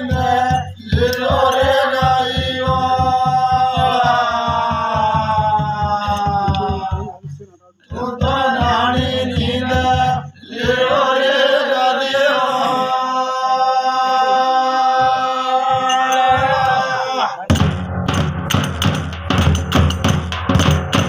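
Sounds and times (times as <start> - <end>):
drum beats: 0.0 - 12.5, 14.6 - 21.0
men chanting in held notes: 0.0 - 17.5.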